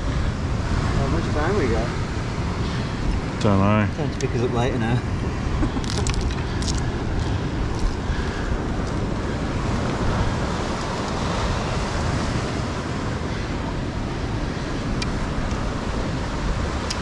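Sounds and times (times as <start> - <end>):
ocean surf breaking on rock: 0.0 - 17.0
wind buffeting microphone: 0.0 - 17.0.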